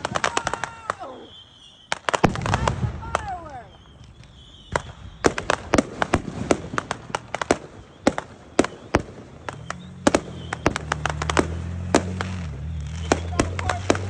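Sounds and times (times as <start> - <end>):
fireworks and firecrackers popping: 0.0 - 14.0.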